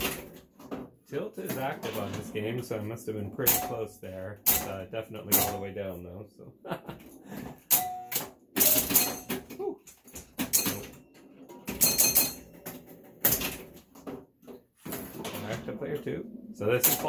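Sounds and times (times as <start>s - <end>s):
pinball relays and score reels clacking: 0.0s - 2.6s, 3.4s - 5.8s, 7.4s - 15.8s, 16.7s - 17.0s.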